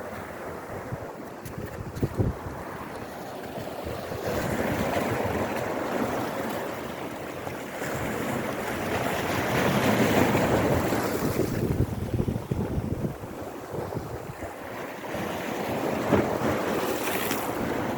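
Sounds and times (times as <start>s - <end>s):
surf splashing against rocks: 0.0s - 17.9s.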